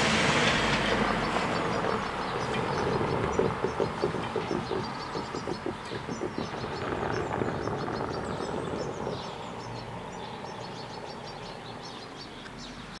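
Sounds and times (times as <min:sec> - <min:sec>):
vehicle rumble moving away: 0:00.0 - 0:13.0
small birds chirping: 0:00.8 - 0:13.0.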